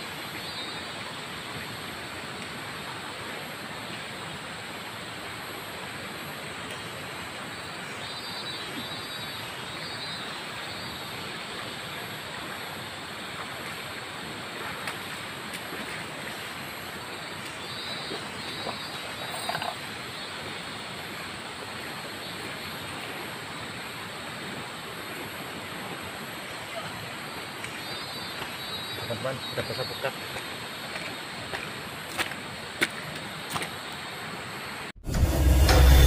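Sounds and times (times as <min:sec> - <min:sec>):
flowing river water: 0:00.0 - 0:36.0.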